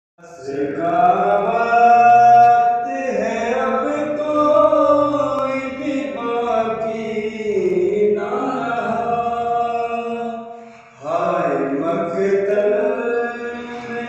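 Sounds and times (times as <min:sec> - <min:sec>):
man singing a lament: 0:00.2 - 0:14.0.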